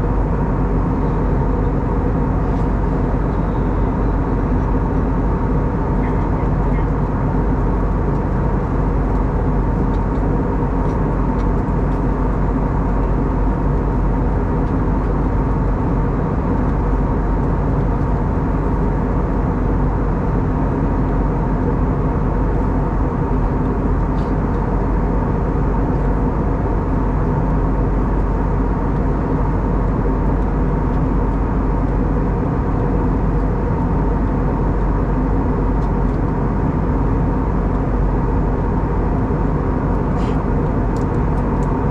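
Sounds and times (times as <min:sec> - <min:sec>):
jet engines humming: 0:00.0 - 0:41.9.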